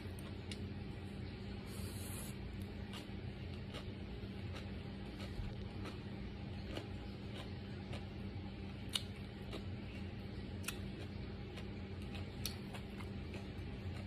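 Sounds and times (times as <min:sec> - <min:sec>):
low hum: 0:00.0 - 0:14.0
crisp chewing crunches: 0:02.6 - 0:14.0.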